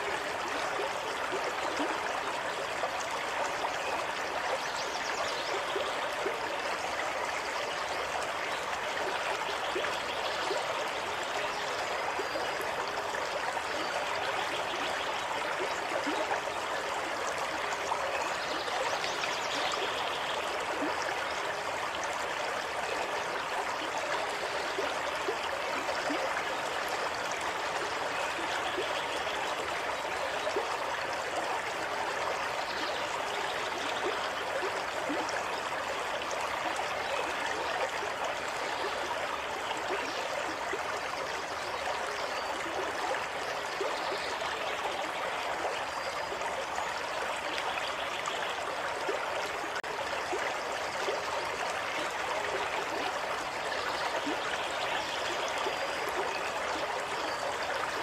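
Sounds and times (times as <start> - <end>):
small stream trickling: 0.0 - 58.0.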